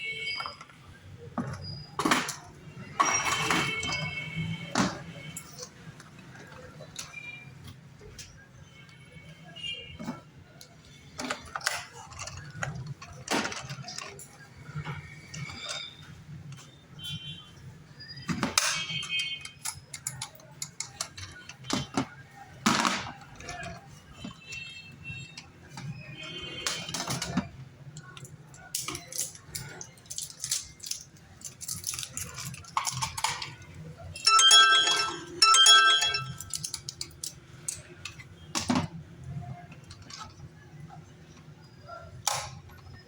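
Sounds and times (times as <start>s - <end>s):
plastic toy clicking and clattering: 1.5s - 8.4s, 10.0s - 16.7s, 18.2s - 43.0s.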